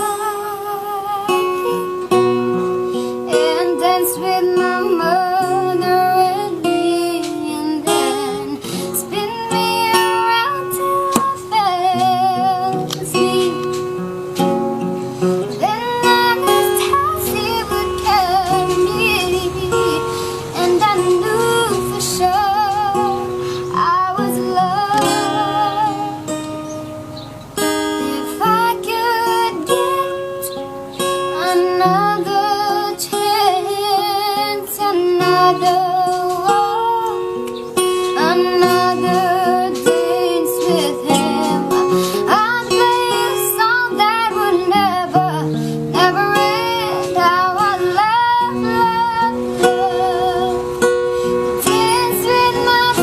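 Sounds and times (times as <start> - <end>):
child singing with vibrato: 0.0 - 2.3, 3.2 - 14.0, 15.5 - 26.4, 27.9 - 30.6, 31.2 - 53.0
plucked string instrument: 0.0 - 53.0.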